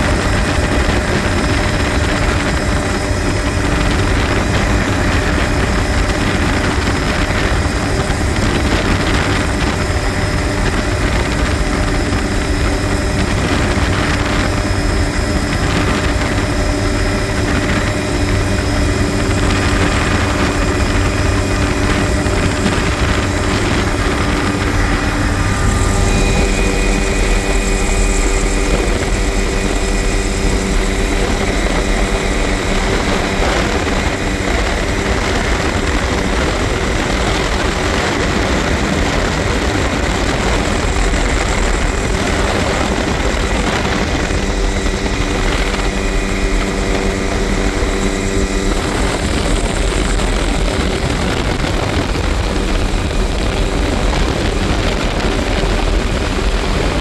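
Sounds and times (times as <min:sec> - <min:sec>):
helicopter rotor and turbine noise: 0:00.0 - 0:57.0
rushing air: 0:00.0 - 0:57.0.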